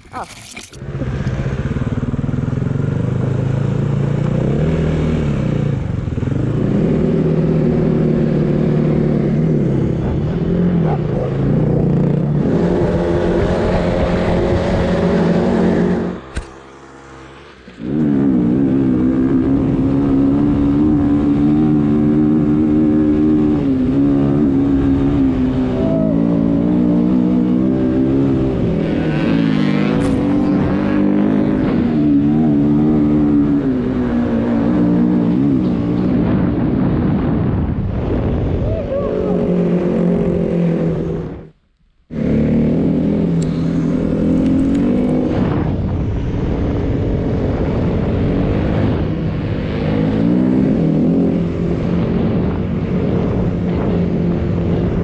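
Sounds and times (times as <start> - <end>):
snowbike engine revving: 0.2 - 55.0.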